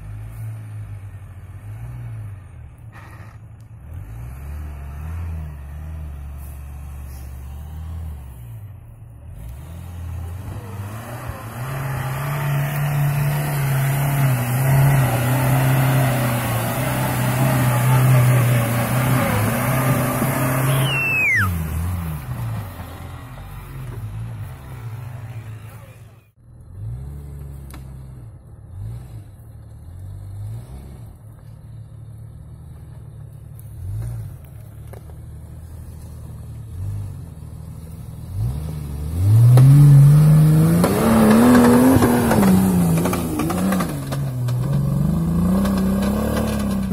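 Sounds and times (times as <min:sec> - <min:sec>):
engine revving: 0:00.0 - 0:08.7, 0:09.3 - 0:31.2, 0:35.9 - 0:46.9.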